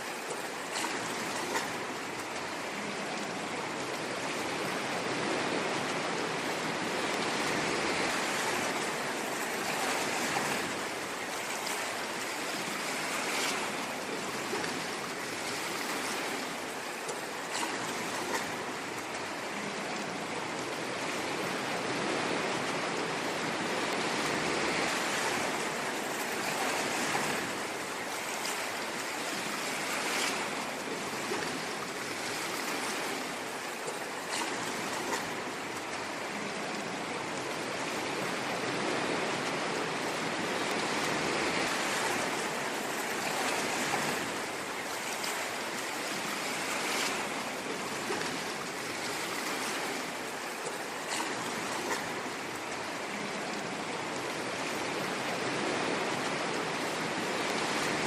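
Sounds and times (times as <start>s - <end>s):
ocean surf on shore: 0.0s - 58.0s.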